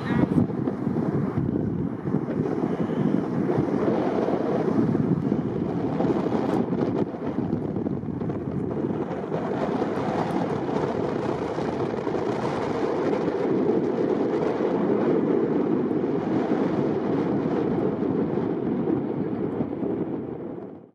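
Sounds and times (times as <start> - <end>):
wind blowing across microphone: 0.0 - 20.9.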